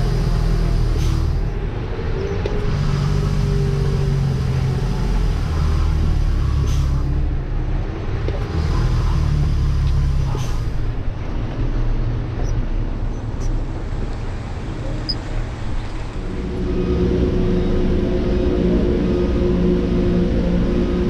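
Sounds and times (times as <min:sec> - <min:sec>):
truck diesel engine running: 0:00.0 - 0:21.0.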